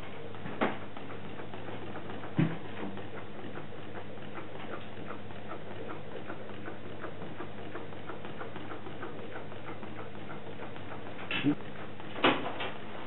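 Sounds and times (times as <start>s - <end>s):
engine mechanism ticking lightly: 0.0s - 13.0s
steady low hum: 0.0s - 13.0s.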